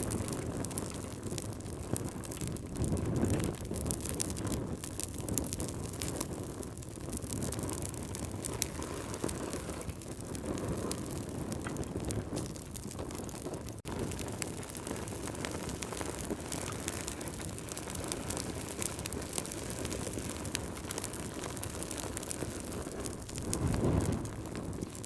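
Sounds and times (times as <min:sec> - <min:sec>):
fire crackling and popping: 0:00.0 - 0:25.0
fire low rumble: 0:00.0 - 0:25.0.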